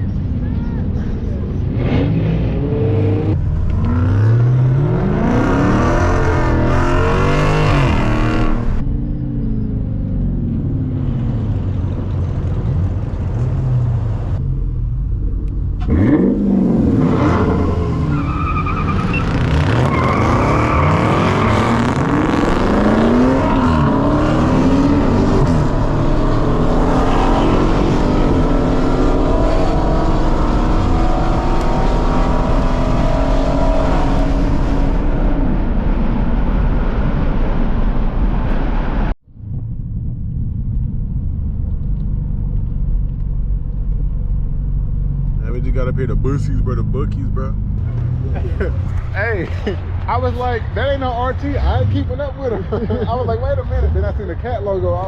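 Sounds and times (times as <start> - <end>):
car engine revving: 1.0 - 55.0.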